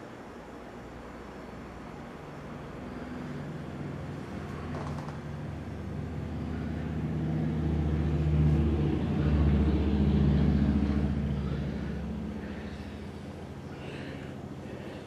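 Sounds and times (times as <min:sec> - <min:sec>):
vehicle engine rumble passing by: 0:01.6 - 0:14.7.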